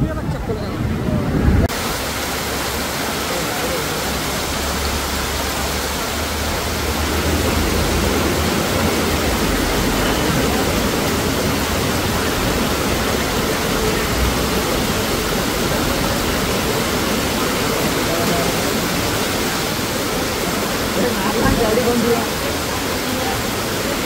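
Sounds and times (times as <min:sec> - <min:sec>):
floodwater rushing: 0:00.0 - 0:24.0
torrential rain pouring: 0:00.0 - 0:24.0.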